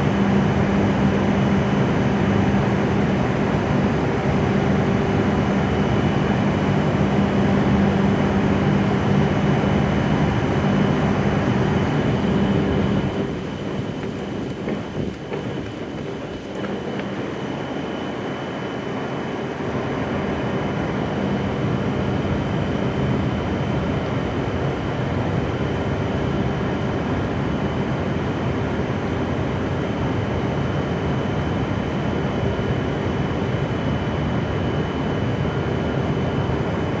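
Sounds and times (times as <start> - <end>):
train equipment humming with whine: 0.0 - 37.0.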